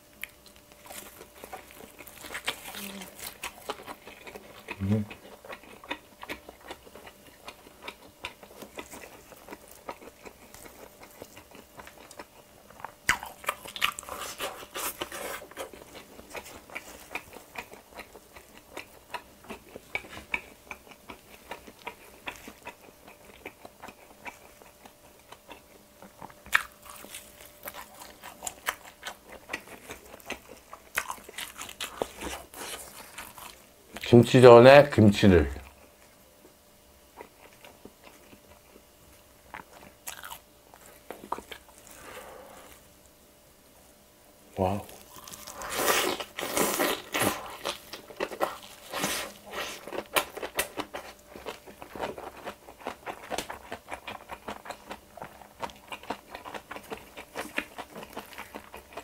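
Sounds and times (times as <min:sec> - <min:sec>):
moist chewing: 0:00.2 - 0:34.1, 0:44.8 - 0:59.0.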